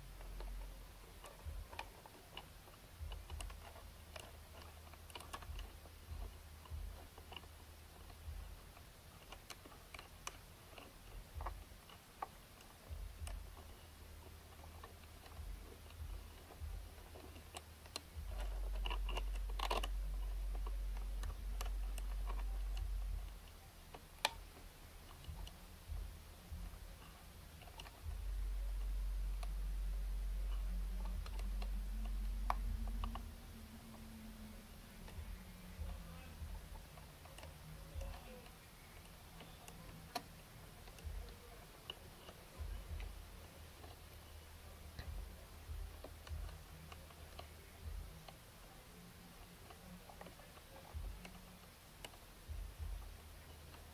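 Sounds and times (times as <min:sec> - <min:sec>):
low steady motor hum: 0:00.0 - 0:53.9
small mechanical clicks: 0:00.2 - 0:52.6.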